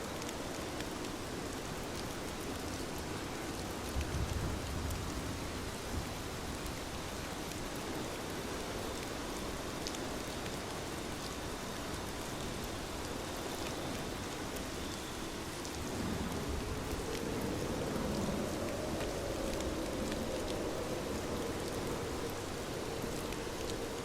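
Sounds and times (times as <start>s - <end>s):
rain drops ticking: 0.0s - 24.0s
steady rain falling: 0.0s - 24.0s.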